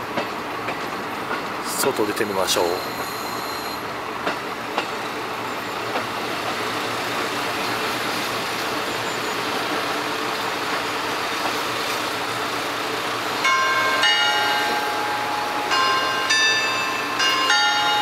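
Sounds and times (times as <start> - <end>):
diesel railcar engine idling: 0.0 - 18.0.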